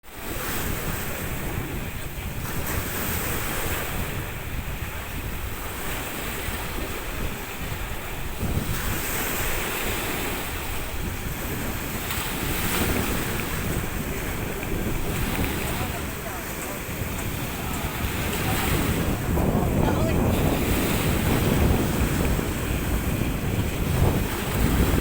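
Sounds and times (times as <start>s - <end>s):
sea waves washing: 0.0s - 25.0s
wind buffeting microphone: 0.1s - 25.0s.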